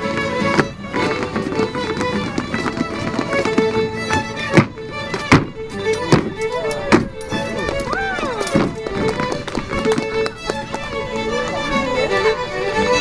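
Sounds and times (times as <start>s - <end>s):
fiddle playing dance tune: 0.0s - 13.0s
sharp knocks: 0.4s - 10.9s.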